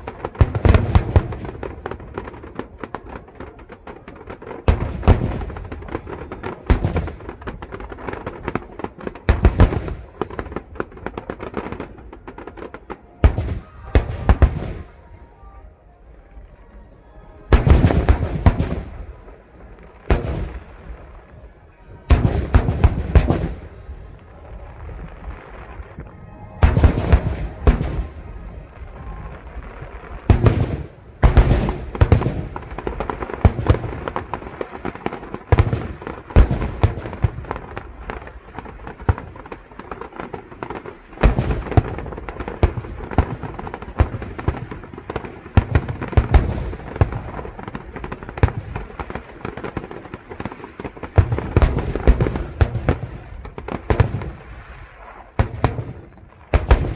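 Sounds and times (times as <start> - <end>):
dense crackling of fireworks: 0.0 - 56.9
fireworks bursting with sharp bangs: 0.0 - 56.9.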